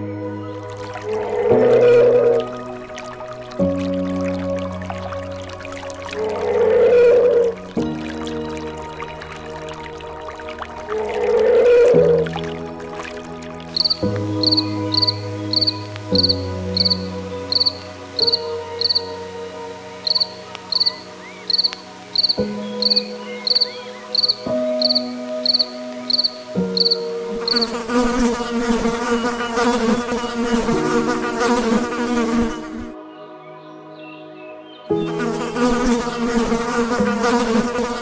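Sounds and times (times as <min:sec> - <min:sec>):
insect chirping: 0:00.5 - 0:19.2, 0:20.0 - 0:32.8.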